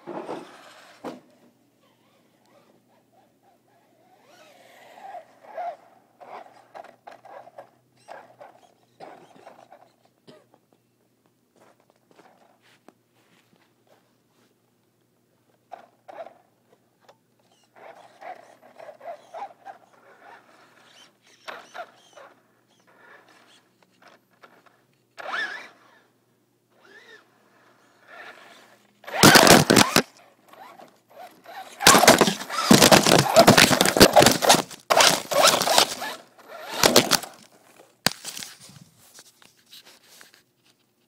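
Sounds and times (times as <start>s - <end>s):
model truck motor and tyre noise: 0.0s - 10.2s, 15.5s - 40.8s.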